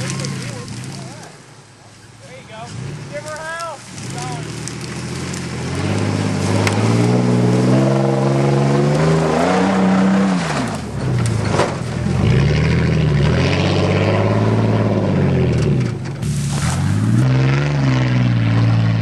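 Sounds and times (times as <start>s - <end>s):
pickup truck engine revving: 2.7s - 19.0s.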